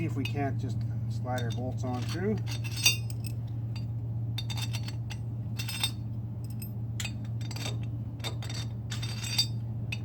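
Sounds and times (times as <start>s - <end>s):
bolts clinking on metal bracket: 0.0s - 10.0s.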